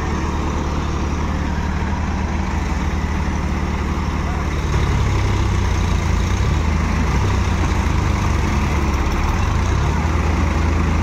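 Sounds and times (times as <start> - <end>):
diesel tractor engines running: 0.0 - 11.0.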